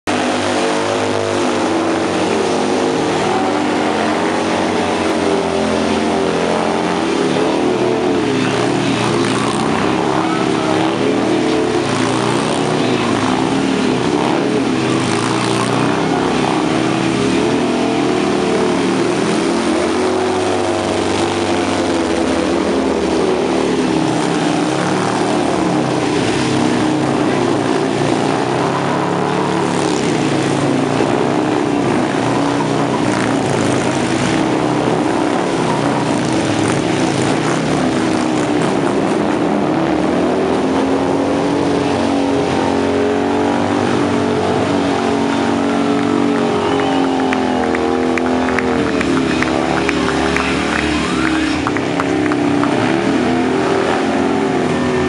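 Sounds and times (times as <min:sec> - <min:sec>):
motorcycle engines revving hard: 0:00.0 - 0:55.0.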